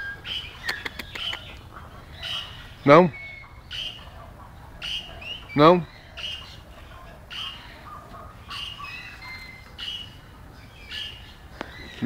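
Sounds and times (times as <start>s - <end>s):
parrots chirping: 0.0s - 12.0s.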